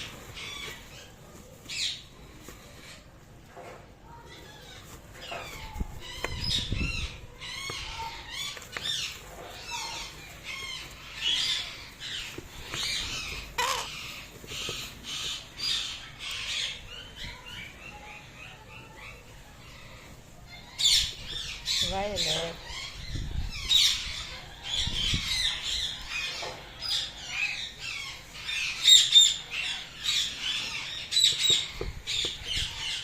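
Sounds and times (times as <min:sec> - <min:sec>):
parrots squawking: 0:00.0 - 0:02.1, 0:04.4 - 0:33.0.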